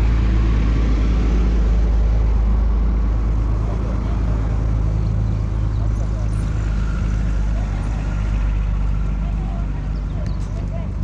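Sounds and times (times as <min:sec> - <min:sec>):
engine rumbling close by: 0:00.0 - 0:11.0
passing traffic: 0:00.0 - 0:11.0.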